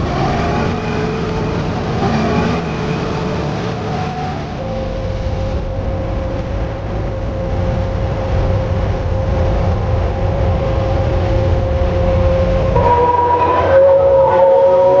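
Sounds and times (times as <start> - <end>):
diesel engine running under load: 0.0 - 15.0
machinery whine: 0.0 - 15.0.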